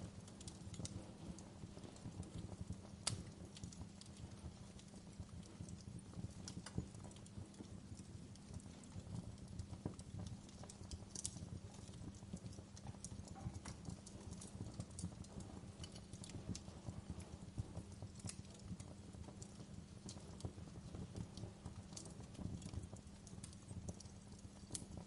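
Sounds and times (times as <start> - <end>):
low rumble of burning: 0.0 - 25.0
wood fire crackling: 0.0 - 25.0.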